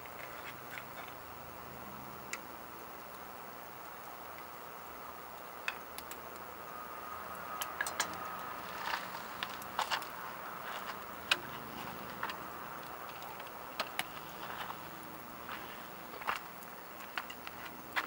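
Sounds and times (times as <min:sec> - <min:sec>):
firewood burning with crackles: 0:00.0 - 0:18.0.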